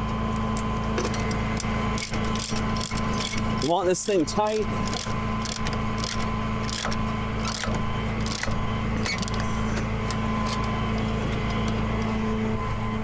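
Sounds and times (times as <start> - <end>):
truck engine idling: 0.5 - 13.0
ratchet binder clicking: 1.5 - 12.2.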